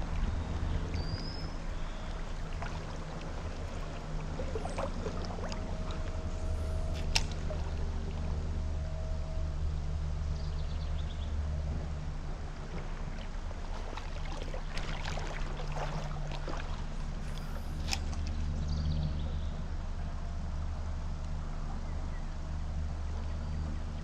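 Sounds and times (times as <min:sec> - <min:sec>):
small stream running: 0:00.0 - 0:24.0.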